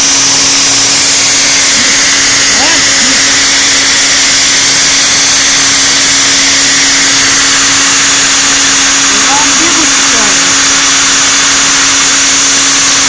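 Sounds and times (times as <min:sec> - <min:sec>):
router spindle engraving: 0:00.0 - 0:13.0.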